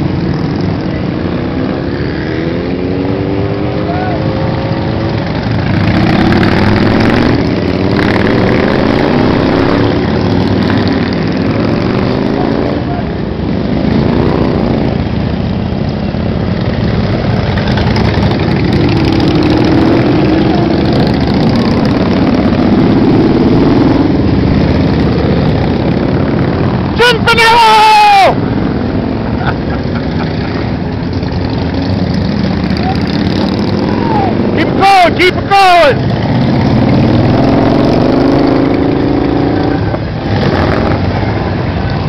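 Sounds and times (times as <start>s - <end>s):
motorcycles riding past: 0.0s - 27.3s, 28.2s - 42.0s.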